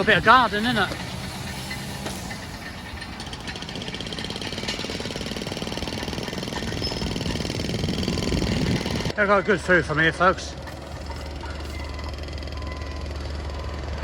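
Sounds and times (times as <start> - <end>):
engine knocking steadily: 0.0 - 14.0.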